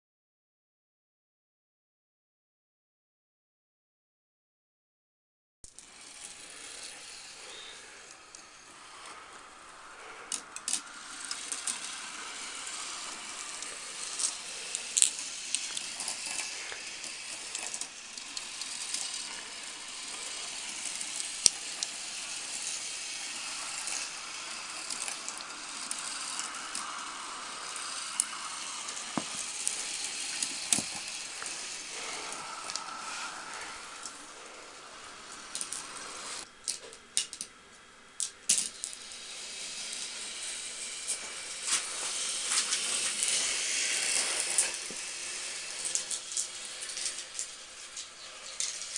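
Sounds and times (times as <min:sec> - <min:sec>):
marbles rolling on plastic track: 0:05.7 - 0:37.5, 0:38.2 - 0:48.9.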